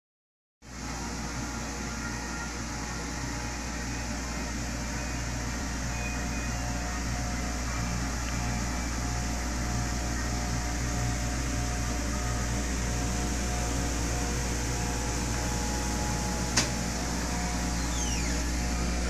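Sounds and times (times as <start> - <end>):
blower fan whirring: 0.6 - 19.0.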